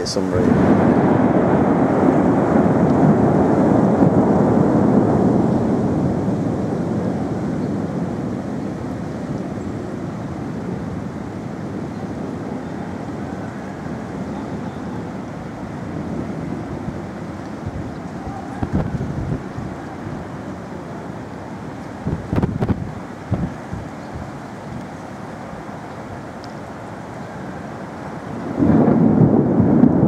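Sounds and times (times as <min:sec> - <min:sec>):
thunder rumbling low: 0:00.0 - 0:30.0
wind buffeting microphone: 0:00.0 - 0:30.0.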